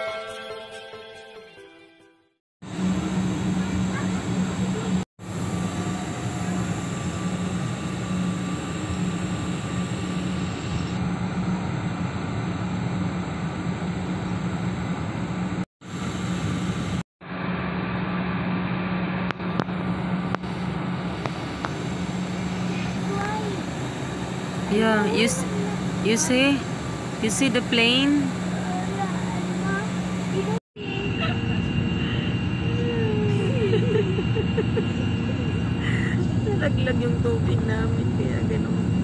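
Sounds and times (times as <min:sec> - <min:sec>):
jet airliner cabin drone: 0:02.6 - 0:39.0.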